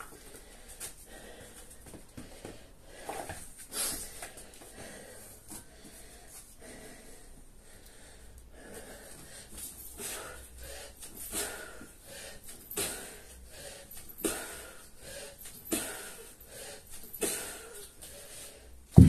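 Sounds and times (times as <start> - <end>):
man breathing hard: 0.0 - 19.0.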